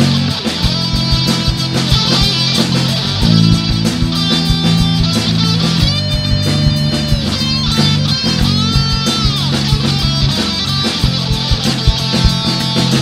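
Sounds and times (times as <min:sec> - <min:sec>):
bass guitar: 0:00.0 - 0:13.0
electric guitar: 0:00.0 - 0:13.0
steady drum beat: 0:00.0 - 0:13.0.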